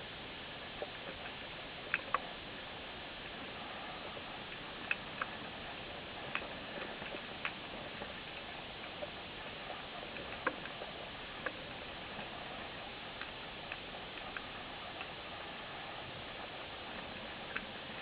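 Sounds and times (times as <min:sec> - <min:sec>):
sharp underwater clicks: 0:00.8 - 0:18.0.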